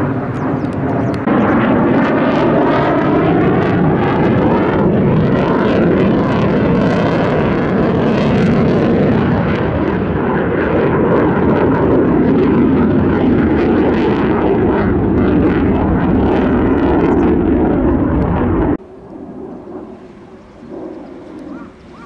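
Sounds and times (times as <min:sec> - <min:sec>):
jet engines roaring with crackle: 0:00.0 - 0:22.0.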